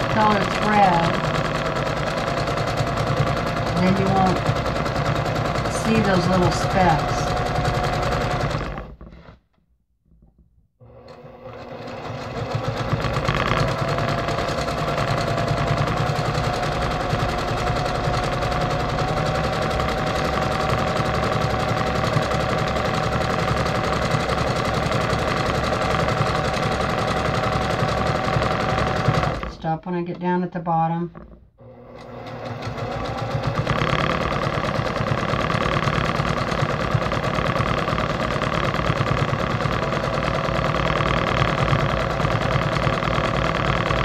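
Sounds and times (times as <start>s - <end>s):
sewing machine stitching: 0.0s - 9.4s, 10.8s - 30.4s, 31.1s - 44.0s.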